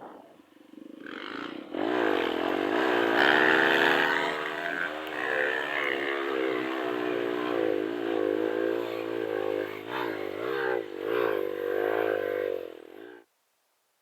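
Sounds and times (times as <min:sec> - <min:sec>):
motorcycle engine revving: 0:00.6 - 0:13.2.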